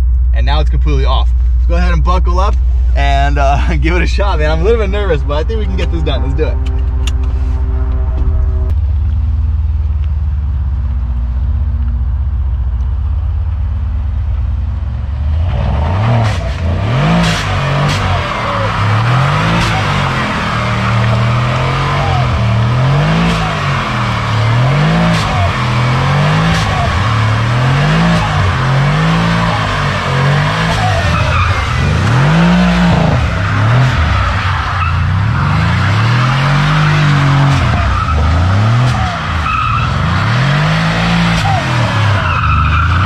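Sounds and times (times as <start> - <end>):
car engine revving: 0.0 - 43.0
tyres skidding: 0.0 - 43.0.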